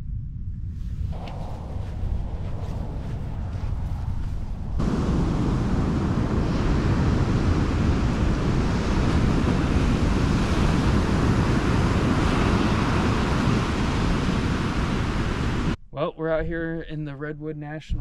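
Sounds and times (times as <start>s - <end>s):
wind buffeting microphone: 0.5s - 15.8s.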